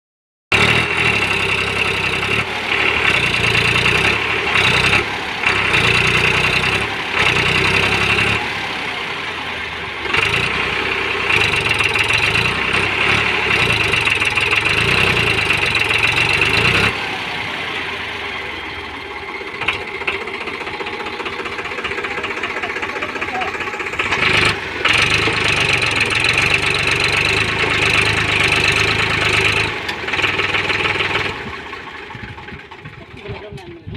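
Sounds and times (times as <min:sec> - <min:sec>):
tractor engine knocking: 0:00.6 - 0:08.4, 0:10.0 - 0:17.1, 0:18.4 - 0:33.9.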